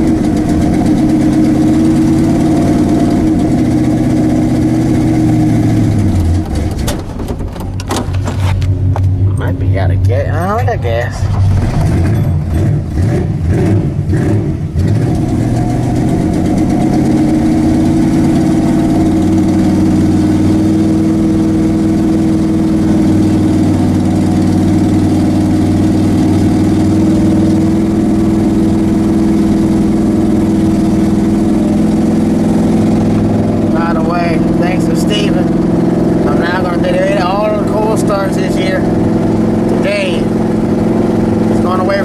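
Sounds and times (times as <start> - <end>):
truck engine stumbling and idling: 0.0 - 42.0.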